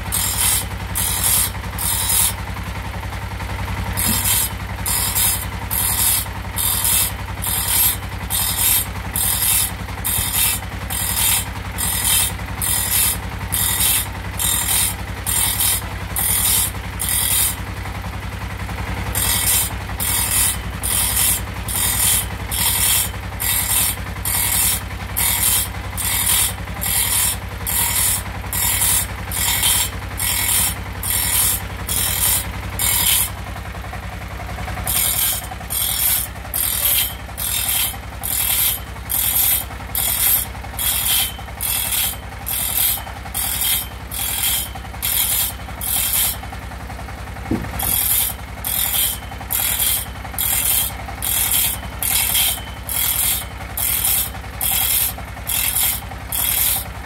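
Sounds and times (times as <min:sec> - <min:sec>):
electric motor humming: 0:00.0 - 0:02.4, 0:03.9 - 0:17.5, 0:19.1 - 0:33.3, 0:34.9 - 0:46.4, 0:47.5 - 0:56.8
grinding wheel rasping on blade: 0:00.0 - 0:02.8, 0:03.7 - 0:57.0.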